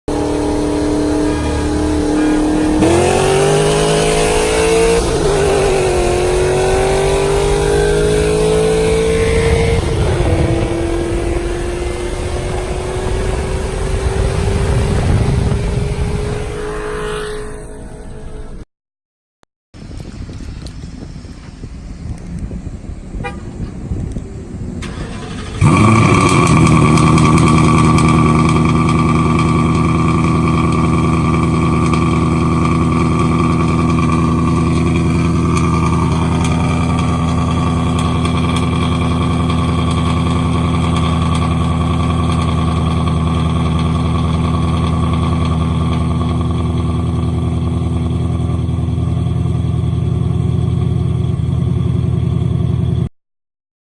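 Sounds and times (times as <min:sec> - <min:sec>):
car engine starting and idling: 0:00.1 - 0:18.6, 0:22.8 - 0:53.1.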